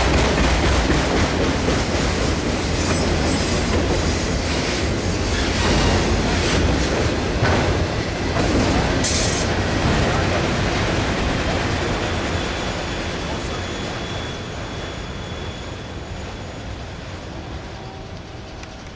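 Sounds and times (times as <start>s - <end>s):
freight train wheels rumbling: 0.0s - 18.9s.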